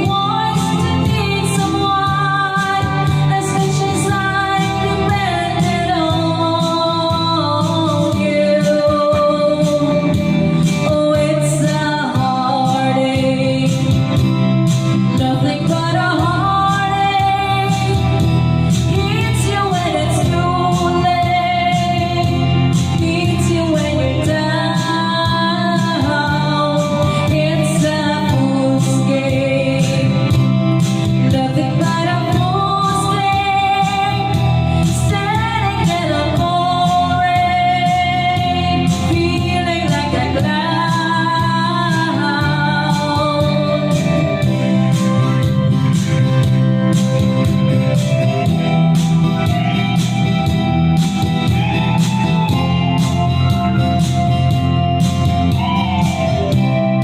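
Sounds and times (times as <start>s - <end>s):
song with sung vocals: 0.0s - 57.0s.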